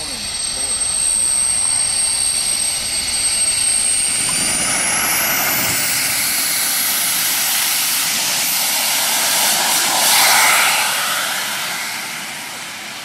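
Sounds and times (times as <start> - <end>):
high thin turbine whine: 0.0 - 13.0
jet turbine engine rushing exhaust: 0.0 - 13.0.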